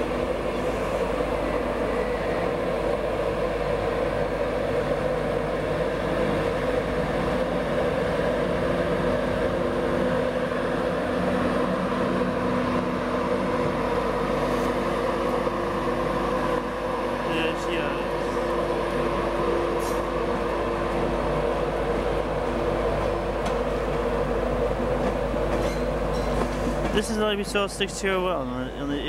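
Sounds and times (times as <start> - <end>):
electric locomotive humming: 0.0 - 29.0.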